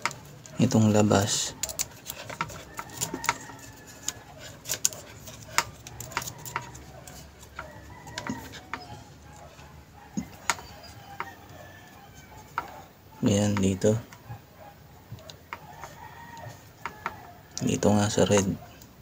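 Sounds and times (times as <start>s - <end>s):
plastic parts and probes clicking: 0.0s - 19.0s.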